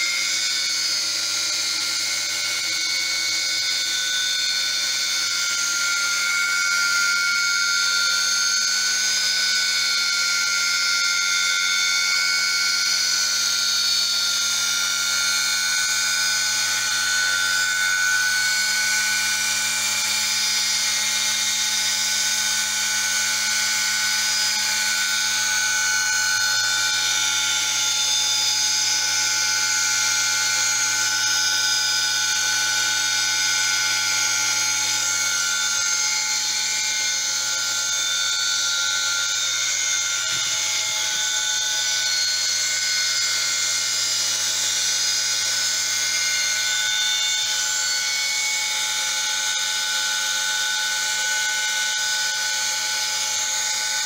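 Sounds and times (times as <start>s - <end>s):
spindle high-pitched whine: 0.0s - 54.0s.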